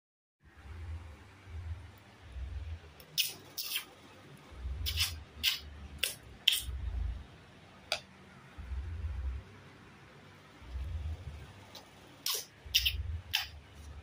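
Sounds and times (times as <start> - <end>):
low rumble: 0.4 - 3.0, 4.0 - 14.0.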